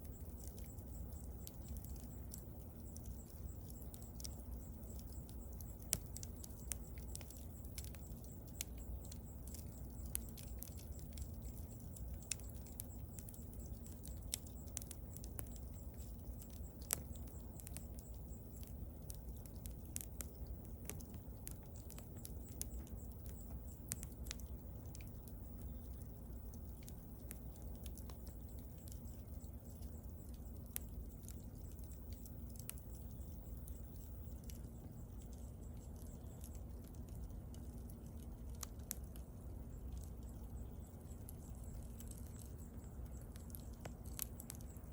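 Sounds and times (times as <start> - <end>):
bonfire crackling and popping: 0.0 - 44.9
low fire rumble: 0.0 - 44.9.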